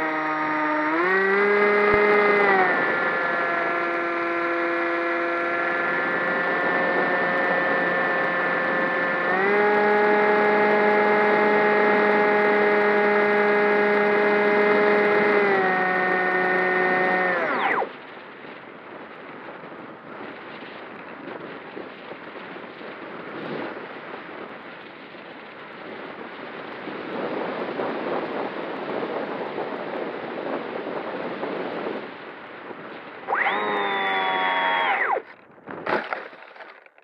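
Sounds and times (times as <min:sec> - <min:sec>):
electric motor and propeller whining: 0:00.0 - 0:19.0, 0:19.7 - 0:37.0.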